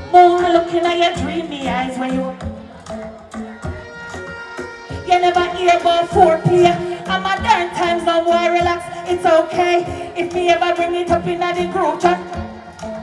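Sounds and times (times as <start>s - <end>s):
dancehall music over sound system: 0.0s - 13.0s
woman singing into microphone: 0.0s - 13.0s.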